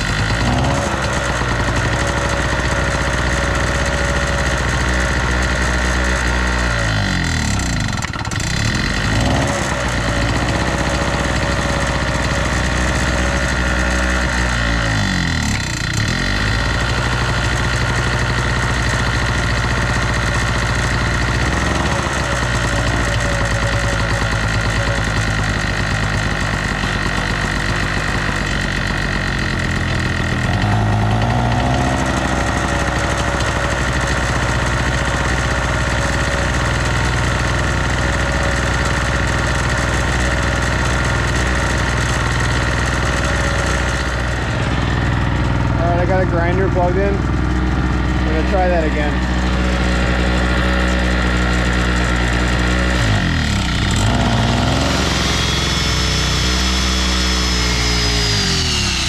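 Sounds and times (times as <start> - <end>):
portable generator engine running: 0.0 - 59.0.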